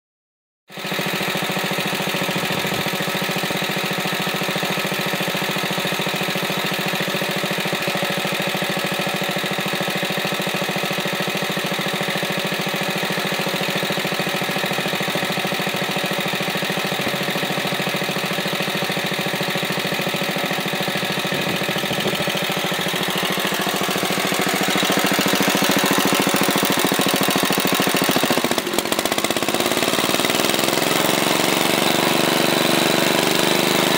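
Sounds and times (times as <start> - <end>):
single-cylinder engine running: 0.7 - 33.9.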